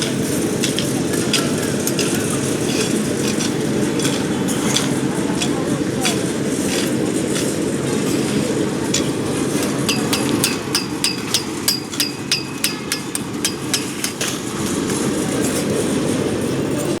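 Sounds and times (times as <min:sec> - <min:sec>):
concrete mixer rumbling: 0:00.0 - 0:17.0.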